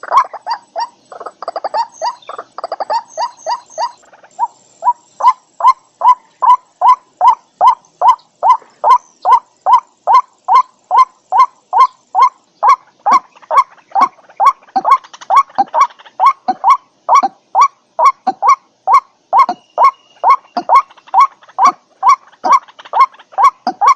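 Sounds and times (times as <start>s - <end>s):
higher bird chatter: 0.0s - 23.9s
waterhen calling: 0.0s - 23.9s.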